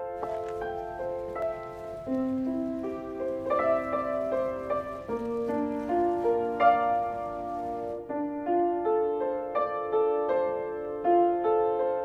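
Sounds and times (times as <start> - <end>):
slow solo piano: 0.0 - 12.0.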